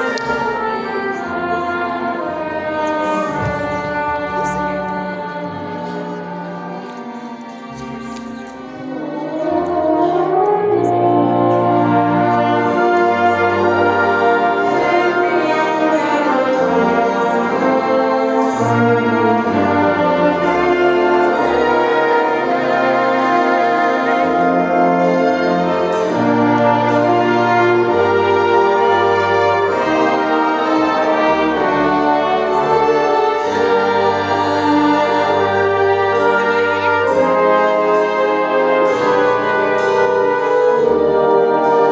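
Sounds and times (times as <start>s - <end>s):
brass-like held chords: 0.0s - 41.9s.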